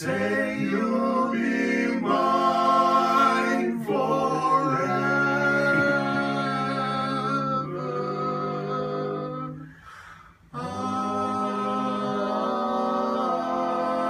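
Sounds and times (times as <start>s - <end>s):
men singing a cappella harmony: 0.0s - 14.0s.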